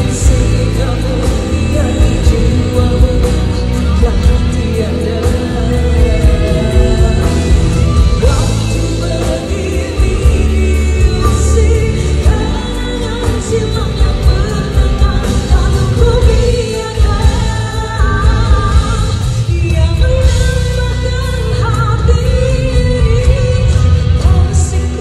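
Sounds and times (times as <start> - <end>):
band playing: 0.0 - 25.0
woman singing pop ballad: 0.0 - 25.0.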